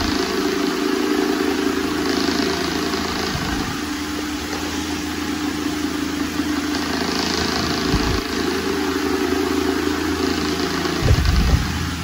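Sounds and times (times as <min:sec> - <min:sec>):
desk fan motor hum: 0:00.0 - 0:12.0.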